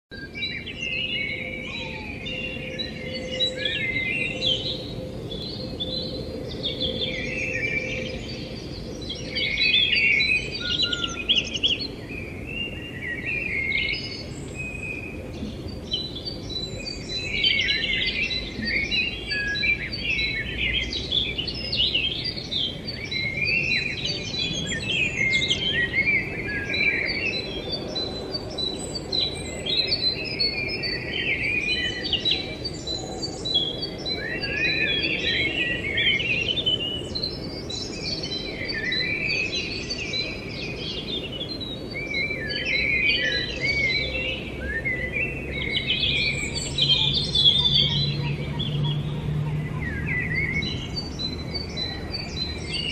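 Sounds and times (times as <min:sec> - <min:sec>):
small birds chirping: 0:00.1 - 0:52.9.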